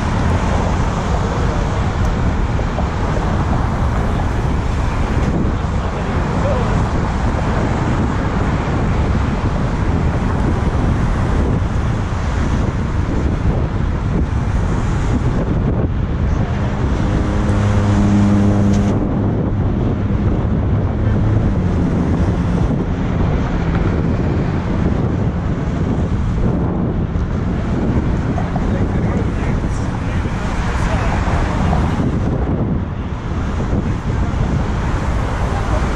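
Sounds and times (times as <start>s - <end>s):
traffic rumble: 0.0s - 35.9s
wind on camera microphone: 0.0s - 35.9s.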